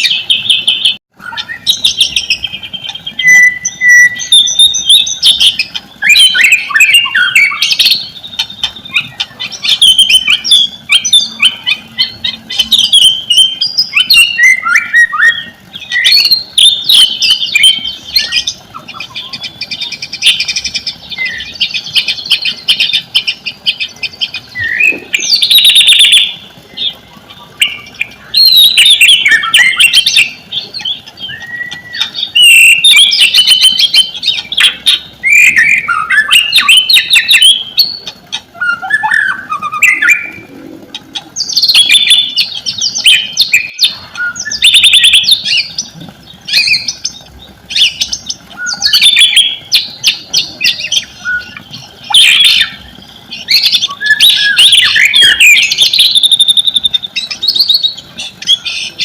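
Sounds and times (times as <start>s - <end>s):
bird singing trills and whistles: 0.0s - 59.0s.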